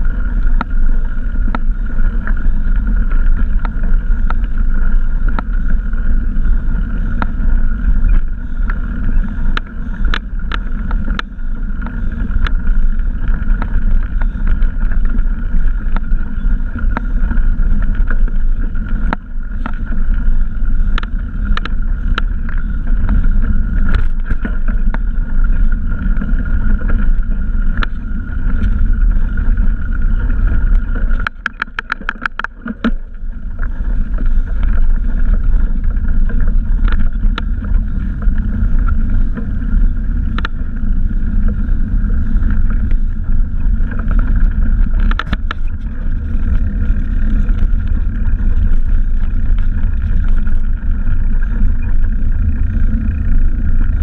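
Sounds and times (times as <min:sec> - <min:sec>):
bike tyres rumbling on dirt: 0:00.0 - 0:54.0
wind on microphone: 0:00.0 - 0:54.0.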